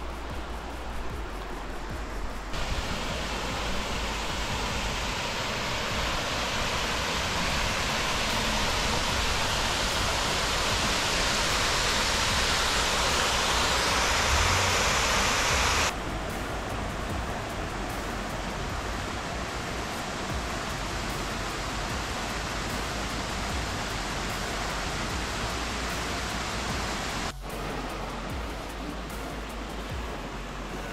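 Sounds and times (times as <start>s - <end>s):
water rushing over weir: 2.5s - 30.9s.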